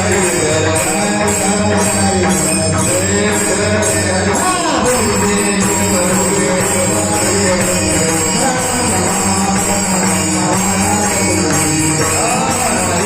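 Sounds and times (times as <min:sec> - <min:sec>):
drum beat: 0:00.0 - 0:13.0
hand cymbals jingling: 0:00.0 - 0:13.0
steady drone: 0:00.0 - 0:13.0
voices singing devotional melody: 0:00.0 - 0:13.0.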